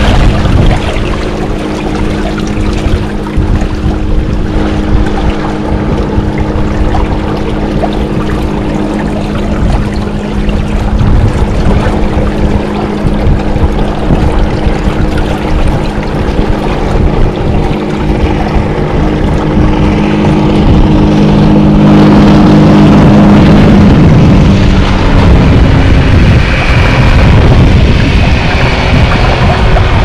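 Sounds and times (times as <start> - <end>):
boat engine humming: 0.0 - 30.0
wind and water rushing: 0.0 - 30.0.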